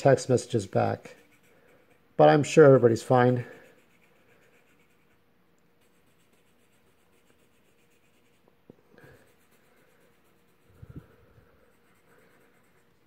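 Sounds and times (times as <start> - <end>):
pencil scratching on paper: 0.1 - 13.0.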